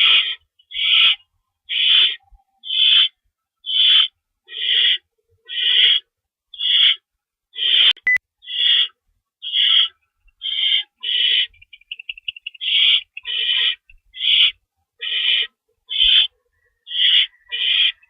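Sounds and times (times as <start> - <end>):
owl hissing screech calls: 0.0 - 7.0, 7.6 - 11.6, 12.6 - 16.3, 16.9 - 18.0.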